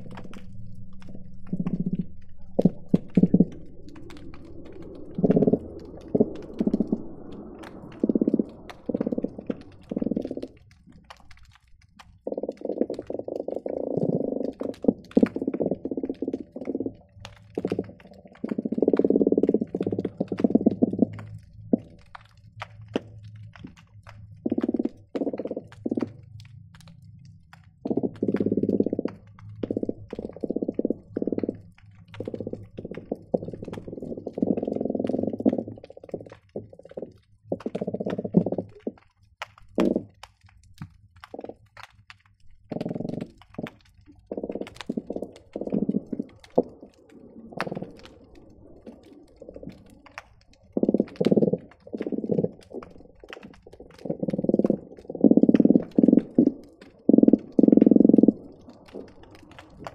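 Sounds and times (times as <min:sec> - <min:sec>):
fish drumming underwater: 0:00.0 - 0:59.9
sharp clicks and pops: 0:00.0 - 0:59.9.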